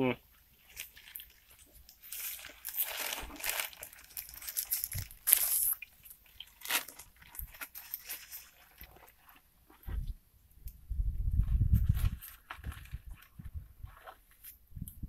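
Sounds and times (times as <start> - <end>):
rustling and scraping: 0.6 - 10.2, 11.2 - 14.6.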